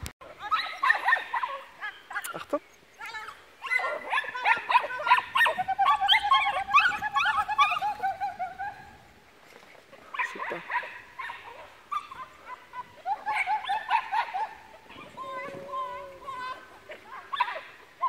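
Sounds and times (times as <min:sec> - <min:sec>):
small dog barking and yipping: 0:00.3 - 0:08.9, 0:10.1 - 0:15.6, 0:16.4 - 0:18.0.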